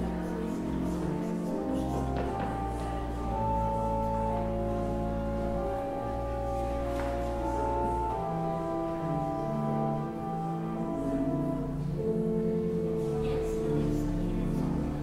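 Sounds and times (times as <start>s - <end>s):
church organ chords: 0.0s - 15.0s.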